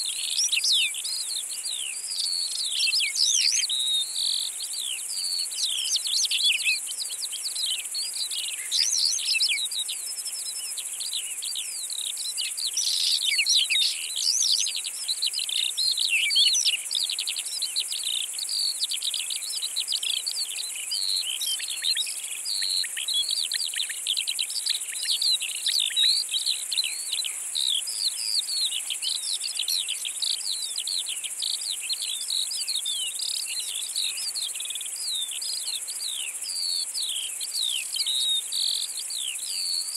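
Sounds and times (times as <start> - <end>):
high insect drone: 0.0 - 39.9
songbirds chirping: 0.0 - 39.9.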